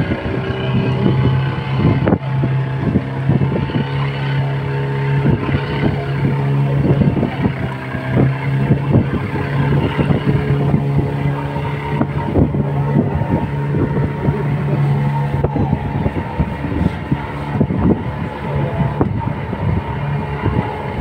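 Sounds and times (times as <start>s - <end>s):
boat engine drone: 0.0s - 21.0s
wind buffeting microphone: 0.0s - 21.0s.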